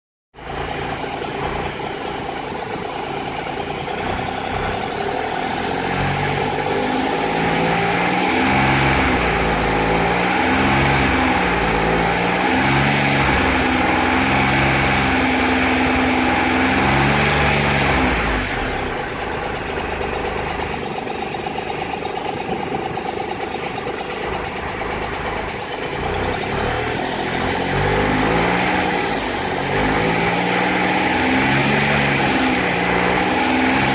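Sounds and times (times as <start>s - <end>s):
motorcycle engine revving: 0.4s - 33.9s.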